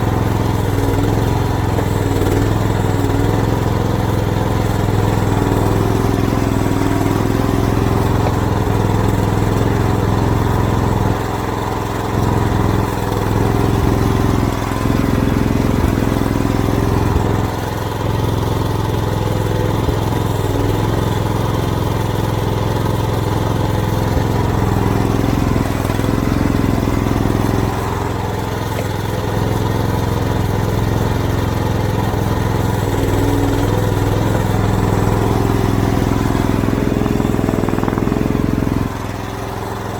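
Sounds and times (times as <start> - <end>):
small excavator engine running: 0.0 - 39.9.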